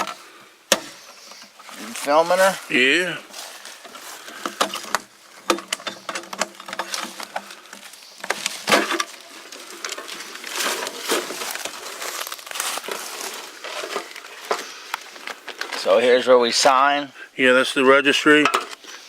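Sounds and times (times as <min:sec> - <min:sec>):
crinkling and rustling: 0:00.8 - 0:16.8.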